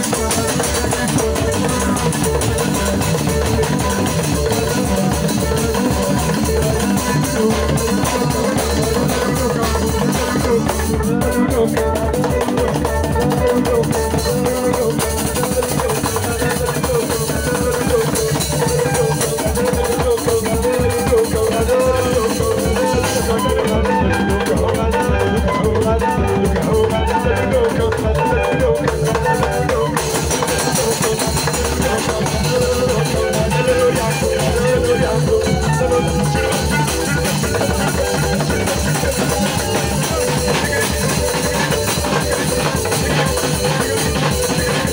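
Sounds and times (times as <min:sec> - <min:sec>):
band with guitar and drums: 0:00.0 - 0:44.9.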